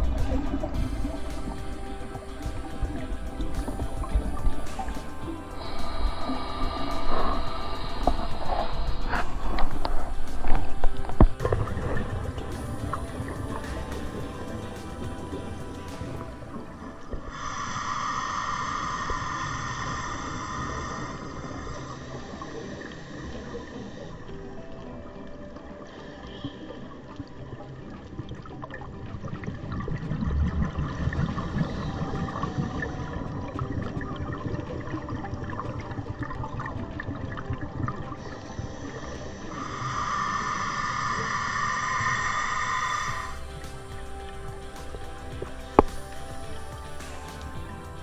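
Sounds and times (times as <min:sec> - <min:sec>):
hissing bubble rush: 0:00.0 - 0:24.4, 0:29.4 - 0:48.0
muffled underwater noise: 0:00.0 - 0:48.0.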